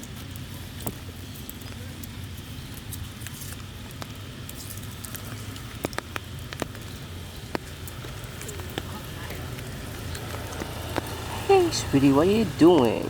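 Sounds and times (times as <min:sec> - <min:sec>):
dry leaves and twigs crackling: 0:00.0 - 0:12.0.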